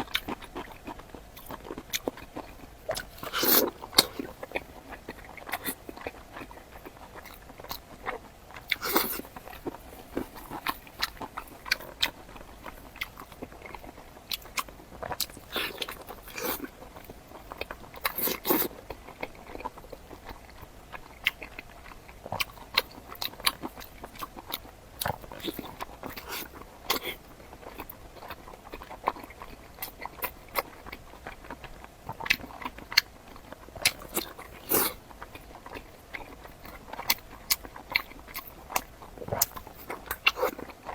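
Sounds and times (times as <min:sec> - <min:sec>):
biting and chewing: 0:00.0 - 0:40.9.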